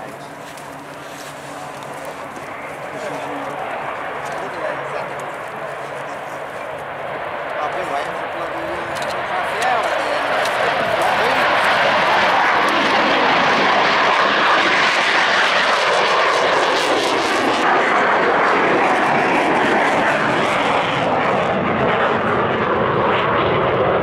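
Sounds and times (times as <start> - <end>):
fighter jet noise: 0.0 - 24.0.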